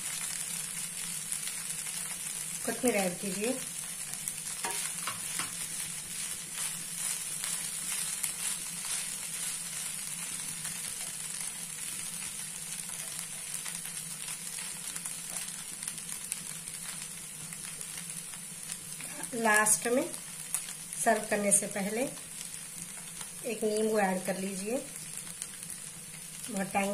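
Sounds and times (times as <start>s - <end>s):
rice sizzling in pan: 0.0s - 26.9s.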